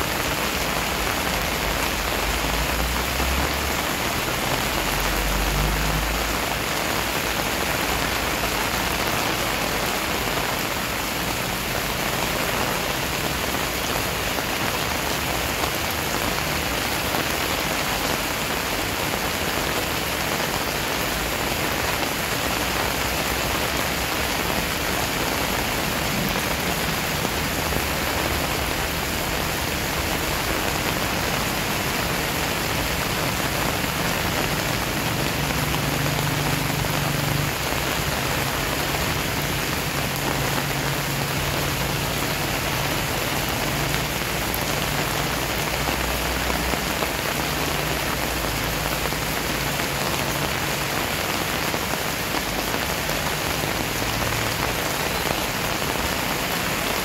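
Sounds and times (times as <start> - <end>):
rain falling on pavement and leaves: 0.0 - 57.0.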